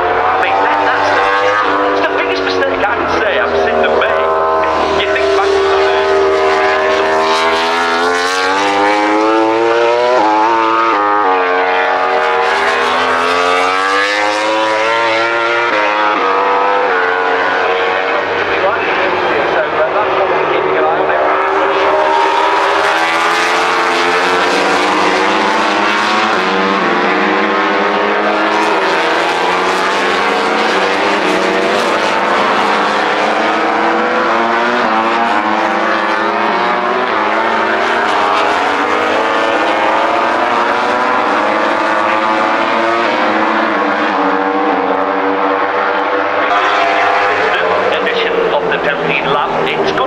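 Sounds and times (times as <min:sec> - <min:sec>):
race motorcycle engines revving: 0:00.0 - 0:50.0.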